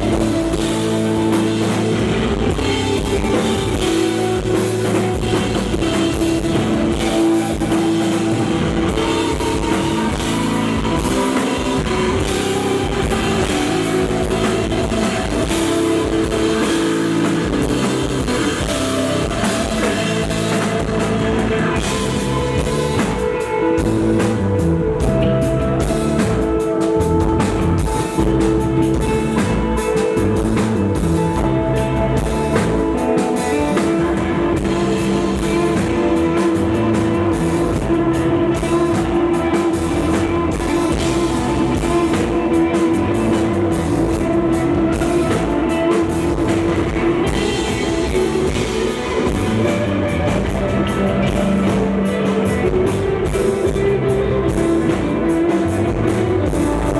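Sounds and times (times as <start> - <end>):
drum kit: 0.0 - 56.9
electric guitar notes: 0.0 - 56.9.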